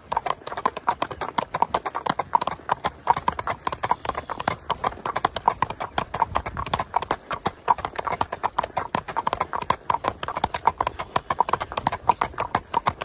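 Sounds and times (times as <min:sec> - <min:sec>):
horse hooves clip-clopping on asphalt: 0:00.0 - 0:13.0.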